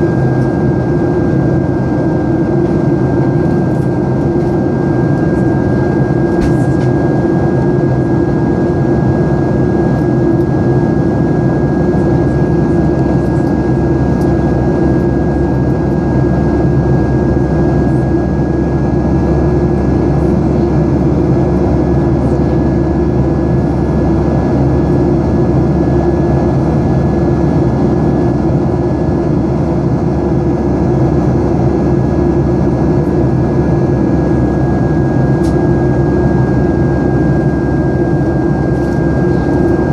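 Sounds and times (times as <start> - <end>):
high engine whine: 0.0 - 39.9
jet engine roar in cabin: 0.0 - 39.9.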